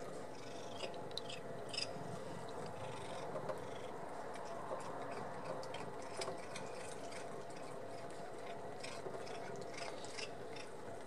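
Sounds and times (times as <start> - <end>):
cat purring: 0.0 - 10.8.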